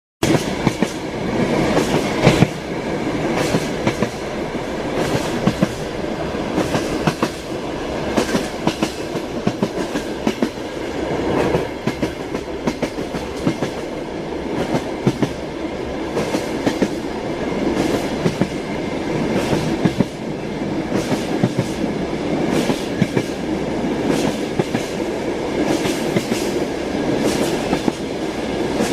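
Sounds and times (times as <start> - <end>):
train rumble: 0.2 - 28.9
train wheels clacking: 0.2 - 28.9.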